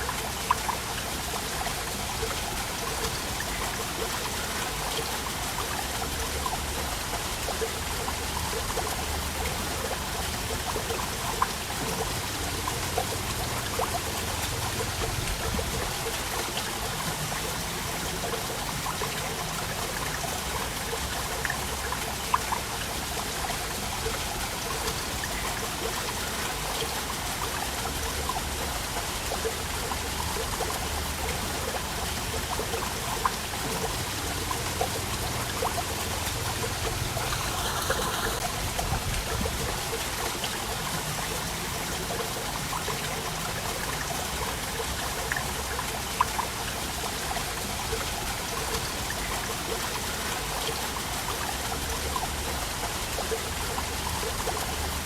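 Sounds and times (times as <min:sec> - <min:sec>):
waterfall rushing: 0:00.0 - 0:55.0
water splashing: 0:00.1 - 0:55.0.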